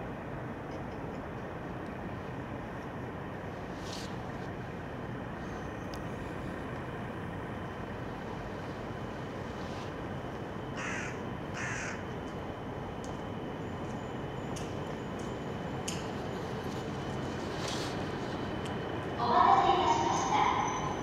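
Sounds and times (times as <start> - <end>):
approaching train rumble: 0.0 - 21.0.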